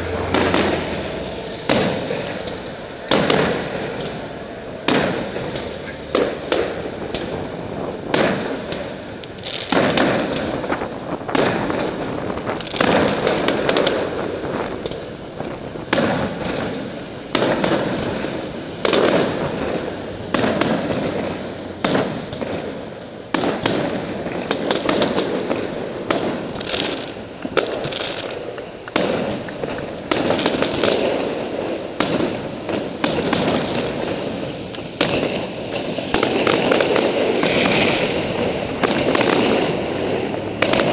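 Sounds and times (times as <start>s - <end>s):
firework shells bursting: 0.1s - 40.9s.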